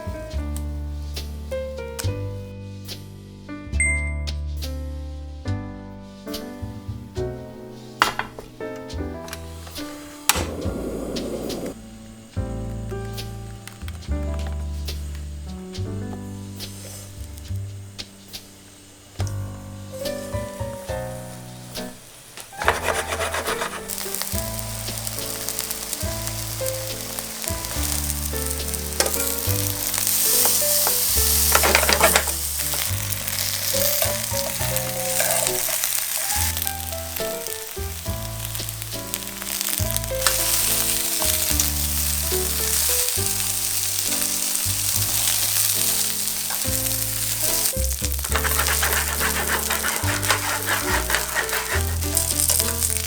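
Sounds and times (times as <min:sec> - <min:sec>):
background music: 0:00.0 - 0:53.0
eggplant sizzling in oil: 0:09.0 - 0:53.0.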